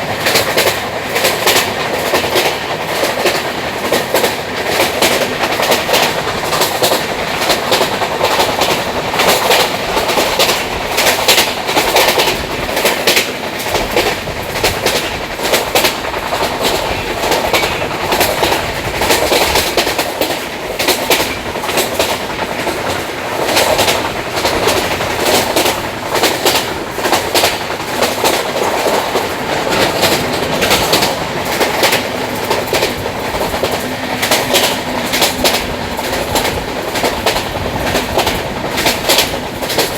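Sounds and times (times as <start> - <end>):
clickety-clack of rail joints: 0.0 - 39.9
train wheels rumbling on track: 0.0 - 39.9.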